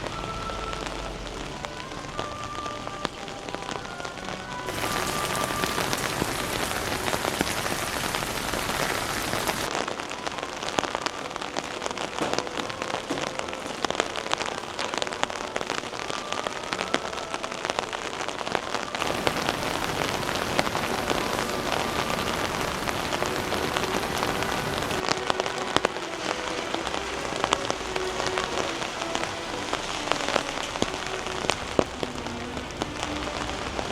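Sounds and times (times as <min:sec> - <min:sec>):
sharp raindrop hits: 0:00.0 - 0:33.9
steady rain falling: 0:00.0 - 0:33.9.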